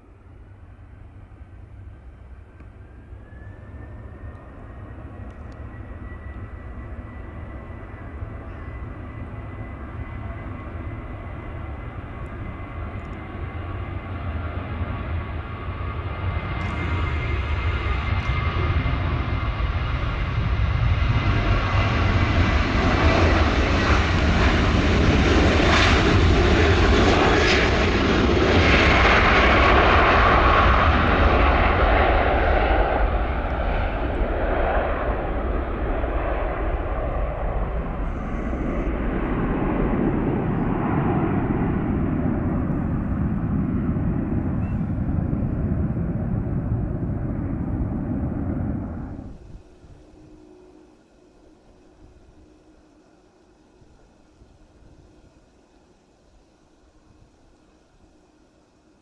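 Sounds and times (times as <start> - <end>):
jet engines roaring at takeoff: 0.0 - 59.0.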